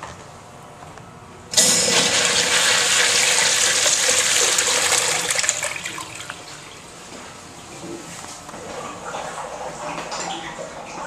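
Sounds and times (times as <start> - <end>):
urinal flushing: 1.5 - 11.0.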